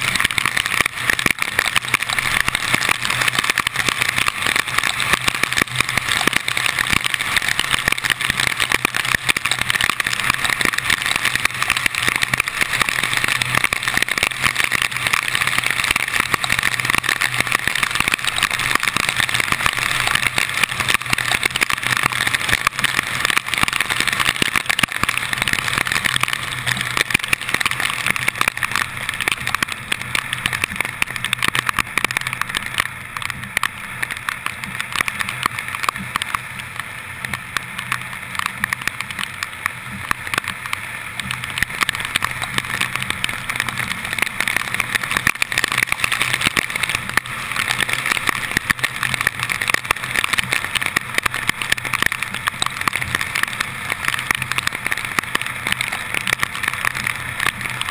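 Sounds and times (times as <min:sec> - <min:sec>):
heavy rain on camera housing: 0:00.0 - 0:57.9
tyres hissing on wet road: 0:00.0 - 0:57.9.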